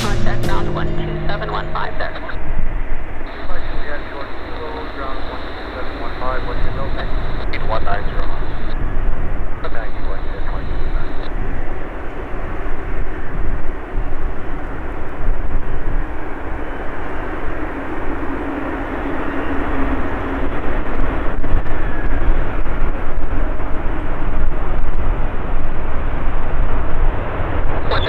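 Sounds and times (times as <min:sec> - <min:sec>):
jet engine noise: 0:00.0 - 0:28.0.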